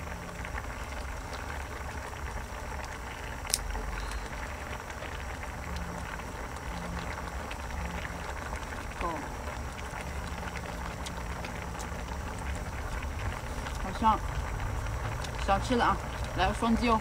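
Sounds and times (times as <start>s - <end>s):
low rumble: 0.0s - 16.8s
pot simmering with bubbling hiss: 0.0s - 17.0s.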